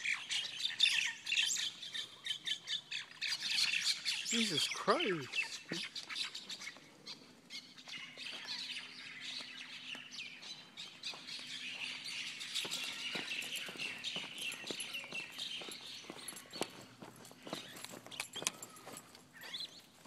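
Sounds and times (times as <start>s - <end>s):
birds chattering and squawking: 0.0s - 20.0s.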